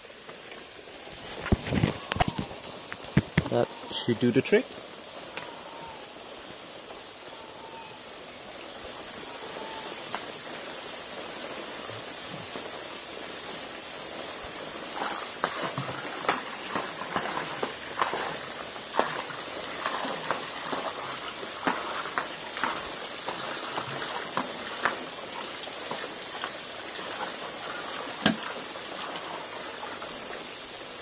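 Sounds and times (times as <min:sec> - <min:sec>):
water splashing and spattering: 0:00.0 - 0:07.1, 0:08.5 - 0:31.0
pool water churning with hiss: 0:00.0 - 0:31.0.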